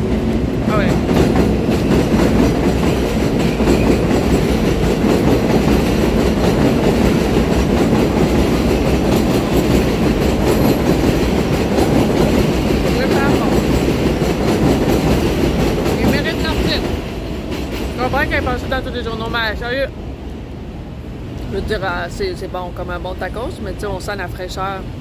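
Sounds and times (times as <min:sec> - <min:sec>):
subway train on elevated tracks: 0:00.0 - 0:25.0.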